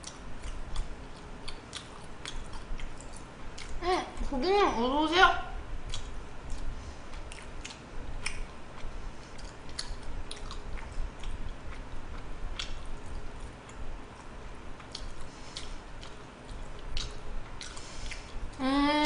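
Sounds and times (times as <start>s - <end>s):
mouth chewing clicks and smacks: 0.0s - 3.8s, 5.8s - 18.4s.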